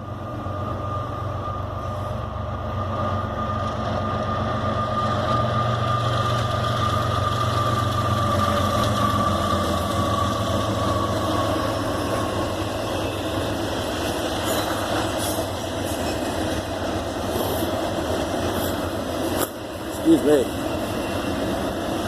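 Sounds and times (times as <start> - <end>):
diesel locomotive engine rumble: 0.0 - 22.0
high engine whine: 0.0 - 22.0.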